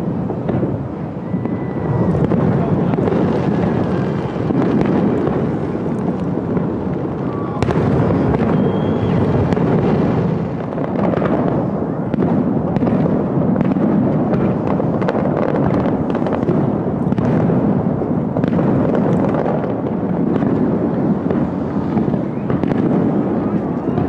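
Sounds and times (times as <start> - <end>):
continuous low noise: 0.0 - 24.0
fireworks bursting: 0.0 - 24.0.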